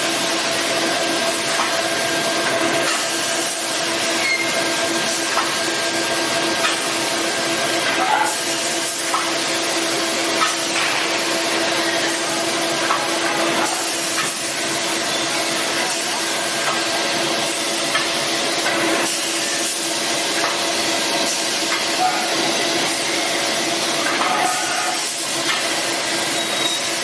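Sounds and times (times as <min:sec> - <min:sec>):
machine hiss and hum: 0:00.0 - 0:27.0.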